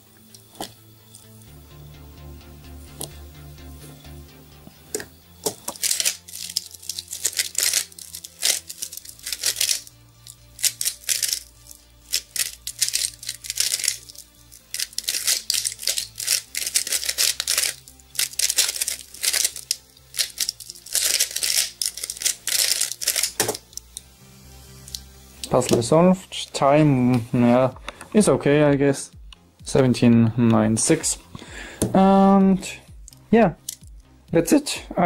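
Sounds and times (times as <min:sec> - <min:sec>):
quiet background music with bass: 0:00.0 - 0:35.0.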